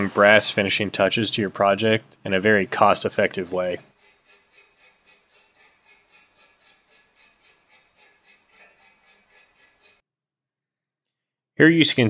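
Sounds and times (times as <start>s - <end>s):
brass brush scrubbing on steel: 0.0s - 10.0s.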